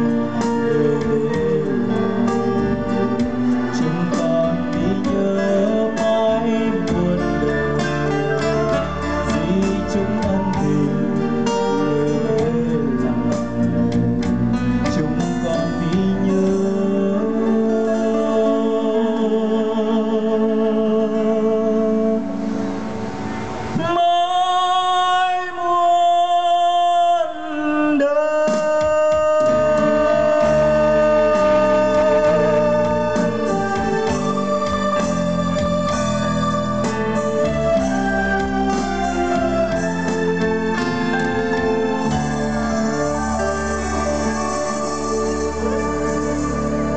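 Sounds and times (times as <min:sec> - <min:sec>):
man singing: 0:00.0 - 0:22.5, 0:23.8 - 0:46.9
live band playing: 0:00.0 - 0:24.2, 0:28.4 - 0:46.9.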